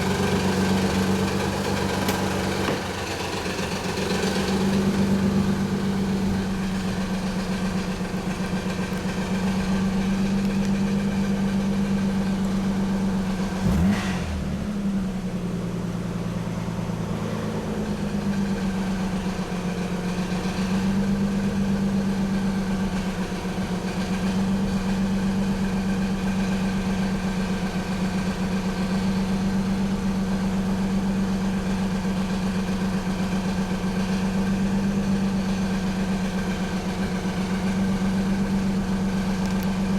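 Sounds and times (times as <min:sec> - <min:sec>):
engine knock: 0:00.0 - 0:14.0, 0:15.2 - 0:39.9
car engine idling: 0:00.0 - 0:39.9.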